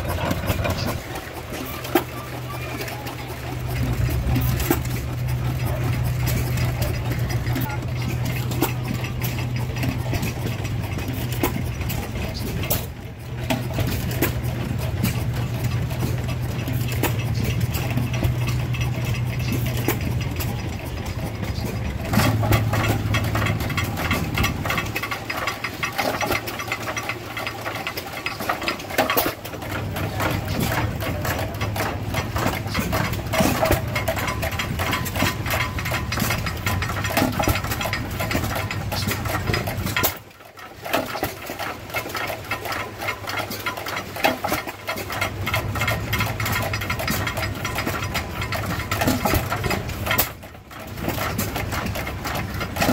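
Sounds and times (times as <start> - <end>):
engine low hum: 0.0 - 52.9
stationary engines clattering: 0.0 - 52.9.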